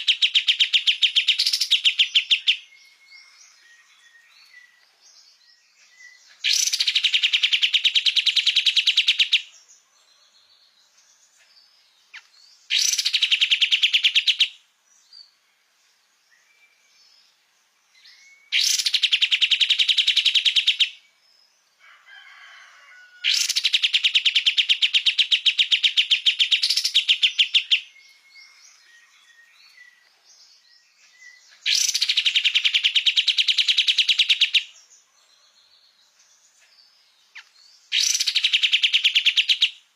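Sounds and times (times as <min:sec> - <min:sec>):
songbird singing rapid notes: 0:00.0 - 0:21.7, 0:23.3 - 0:39.9
faint bird chirps: 0:00.0 - 0:39.9.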